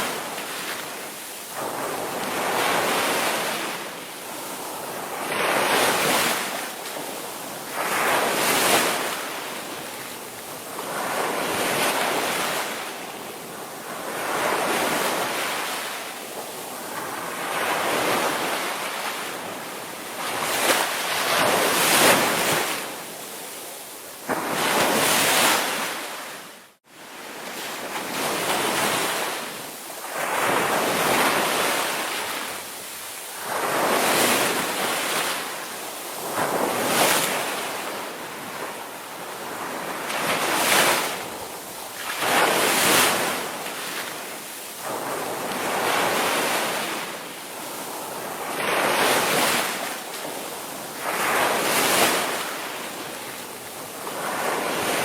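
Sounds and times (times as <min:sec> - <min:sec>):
ocean waves breaking: 0:00.0 - 0:23.3, 0:24.2 - 0:55.0.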